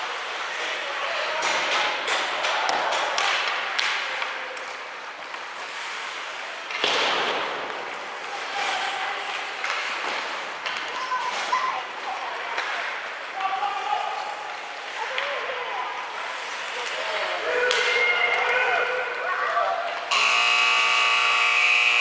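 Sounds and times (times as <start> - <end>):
hockey sticks and puck clacking: 0.1 - 15.5, 16.2 - 18.7.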